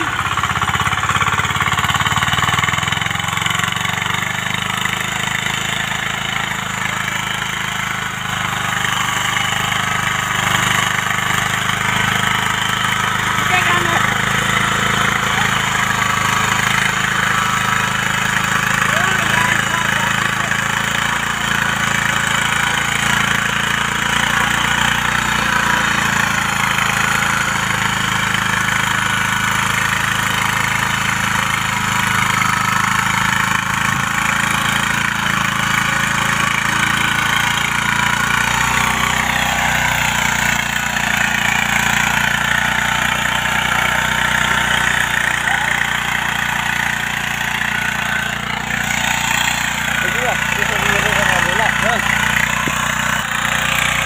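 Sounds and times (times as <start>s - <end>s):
power tiller engine running: 0.0s - 54.0s.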